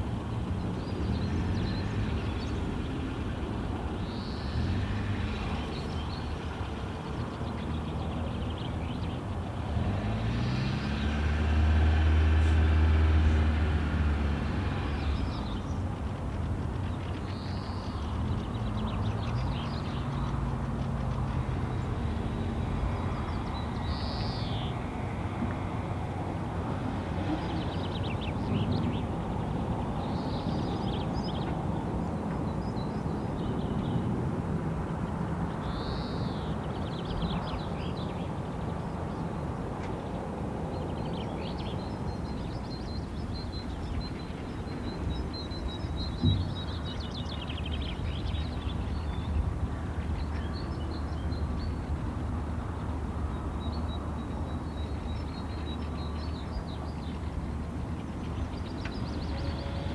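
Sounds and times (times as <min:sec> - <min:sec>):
birds calling and trilling: 0:00.0 - 0:34.1, 0:34.9 - 0:59.9.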